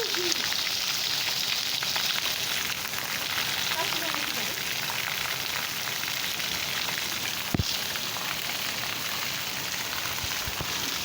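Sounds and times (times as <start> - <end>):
heavy rain hissing: 0.0 - 5.3, 6.5 - 11.0.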